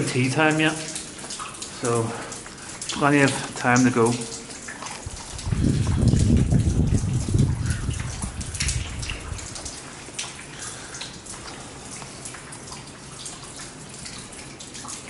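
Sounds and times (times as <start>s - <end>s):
heavy rain falling and dripping: 0.0s - 15.0s.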